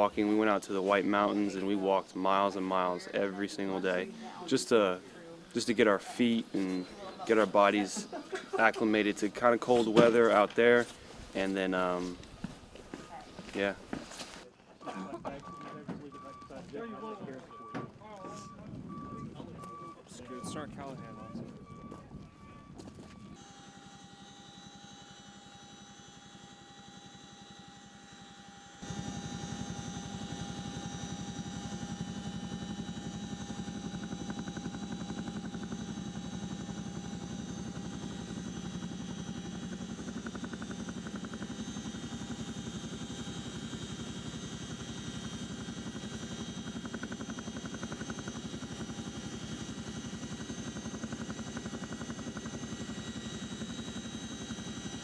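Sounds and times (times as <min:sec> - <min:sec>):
helicopter rotor and turbine noise: 0:00.0 - 0:55.0.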